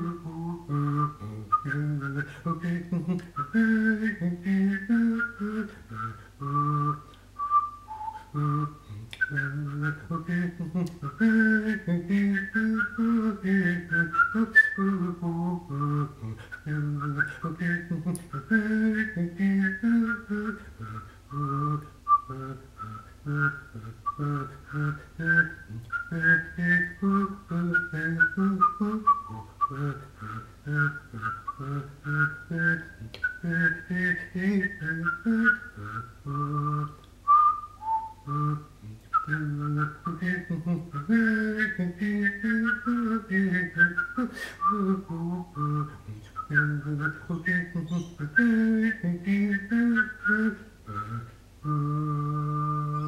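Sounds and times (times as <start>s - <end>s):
man whistling and humming: 0.0s - 53.0s.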